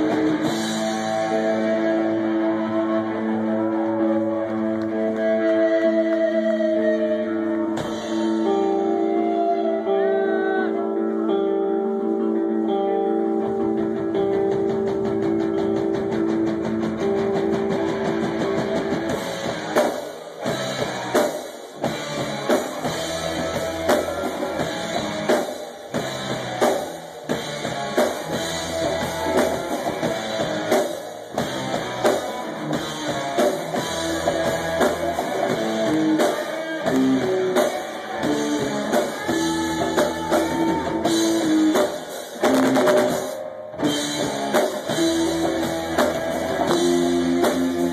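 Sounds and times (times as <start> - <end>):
drums beating: 0.0 - 6.8, 7.5 - 9.0, 13.4 - 47.9
electric guitar: 0.0 - 47.9.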